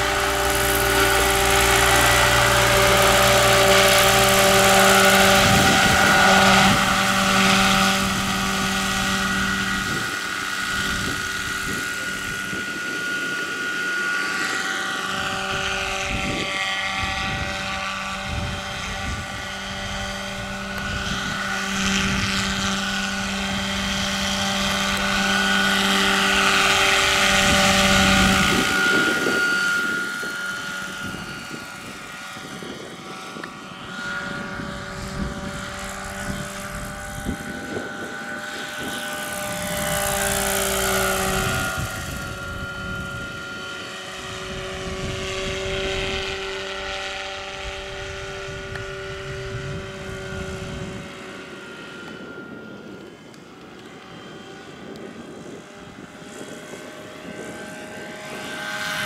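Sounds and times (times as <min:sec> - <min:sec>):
electric drive whine: 0:00.0 - 0:59.0
helicopter rotor blades beating: 0:00.0 - 0:59.0.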